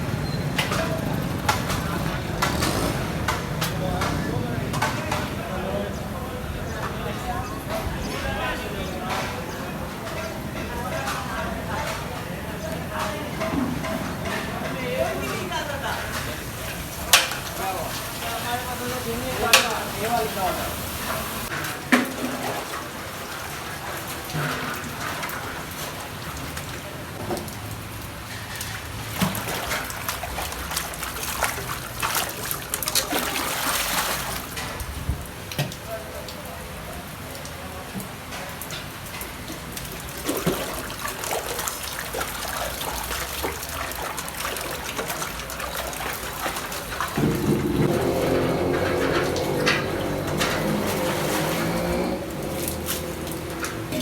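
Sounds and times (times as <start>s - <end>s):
water splashing and trickling: 0.0s - 54.0s
heavy water pour: 0.8s - 5.6s, 8.2s - 54.0s.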